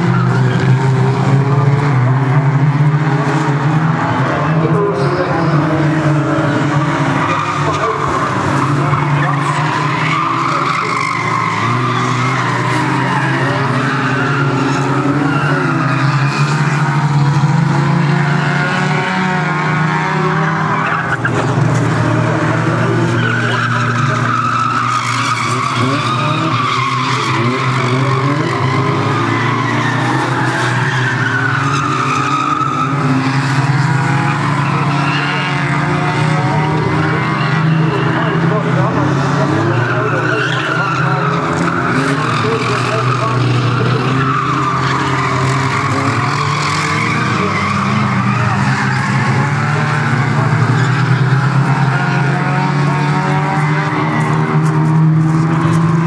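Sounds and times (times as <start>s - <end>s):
race car engines revving: 0.0s - 56.0s
tyres squealing and skidding: 0.0s - 56.0s.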